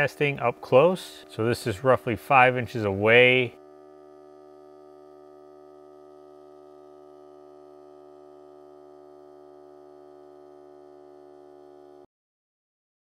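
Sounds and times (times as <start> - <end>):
air compressor humming: 0.0 - 12.1.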